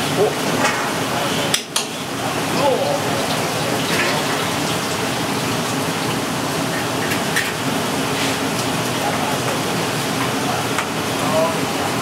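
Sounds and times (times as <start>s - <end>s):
food sizzling on charcoal grill: 0.2s - 11.5s.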